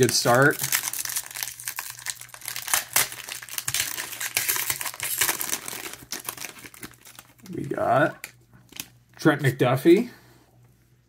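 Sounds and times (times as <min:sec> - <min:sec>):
foil card pack crinkling: 0:00.0 - 0:08.9.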